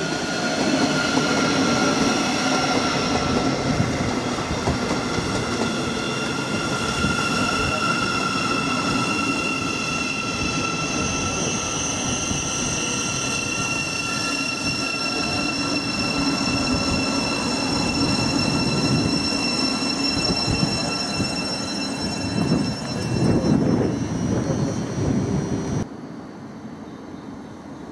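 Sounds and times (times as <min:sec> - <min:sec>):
train wheels rumbling on rails: 0:00.0 - 0:25.9
electric train high-pitched whine: 0:00.0 - 0:27.4.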